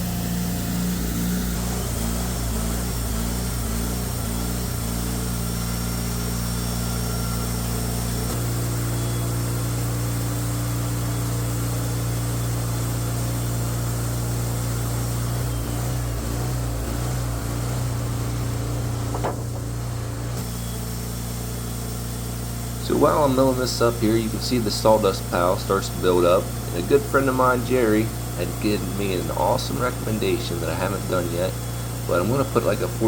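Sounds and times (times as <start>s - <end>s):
saw cutting through log: 0.0s - 20.7s, 22.0s - 33.0s
sawmill engine running under load: 0.0s - 33.0s.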